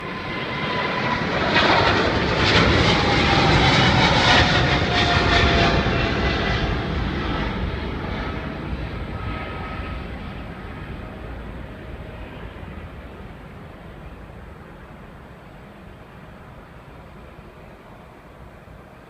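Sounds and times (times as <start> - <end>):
high engine whine: 0.0 - 19.0
jet airliner taking off: 0.0 - 19.0.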